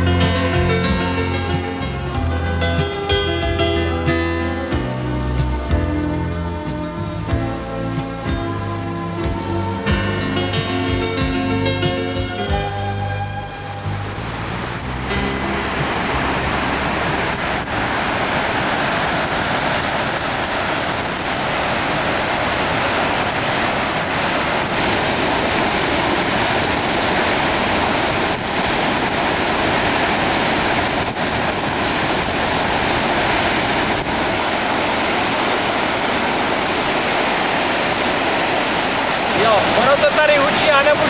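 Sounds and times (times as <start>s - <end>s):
whitewater rushing: 0.0s - 41.0s.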